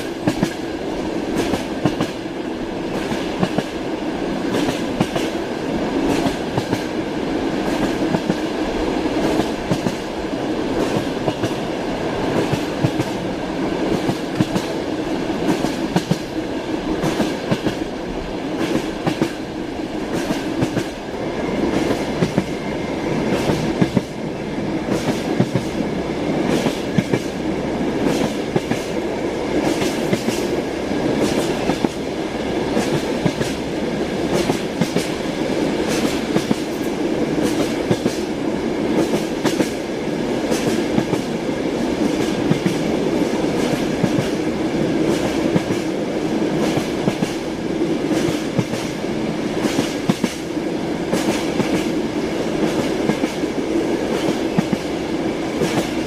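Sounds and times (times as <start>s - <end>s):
train wheels clicking over rail joints: 0.0s - 3.8s, 4.4s - 6.9s, 7.5s - 17.9s, 18.5s - 47.4s, 48.0s - 49.0s, 49.6s - 50.5s, 51.1s - 56.0s
train rumble: 0.0s - 56.0s.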